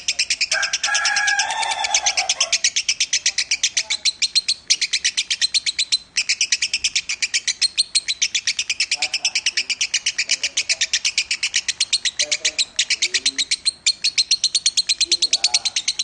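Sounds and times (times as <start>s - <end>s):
bird trilling high chirps: 0.0s - 16.0s.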